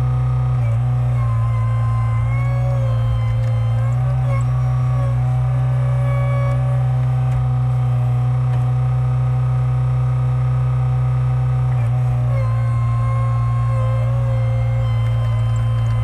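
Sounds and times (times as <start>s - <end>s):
engine running steadily: 0.0s - 16.0s
hydraulic whine: 0.0s - 16.0s.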